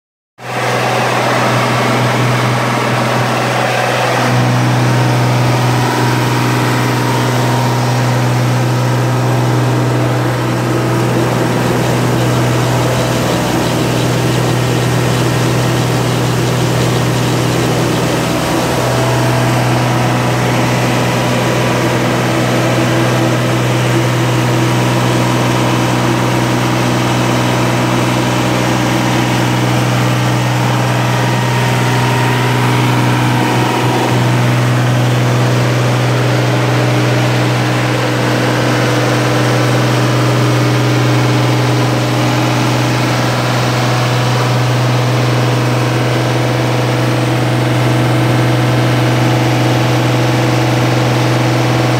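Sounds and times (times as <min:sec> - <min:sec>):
tractor engine running: 0:00.5 - 0:51.9.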